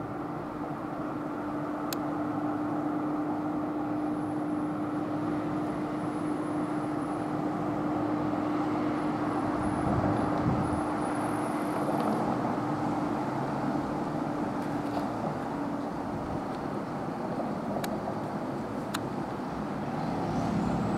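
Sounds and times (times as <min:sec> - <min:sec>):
outdoor background rumble: 0:00.0 - 0:20.9.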